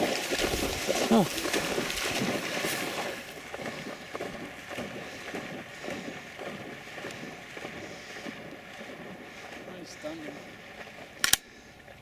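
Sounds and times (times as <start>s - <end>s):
dog splashing through water: 0.0s - 12.0s.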